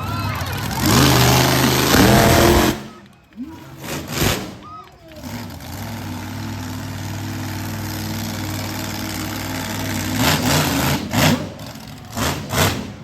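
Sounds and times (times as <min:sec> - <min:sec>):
truck engine idling and revving: 0:00.0 - 0:13.0.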